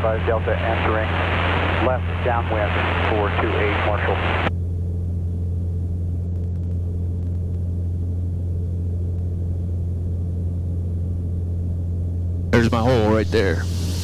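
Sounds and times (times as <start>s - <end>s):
aircraft engine and propeller drone: 0.0s - 14.0s.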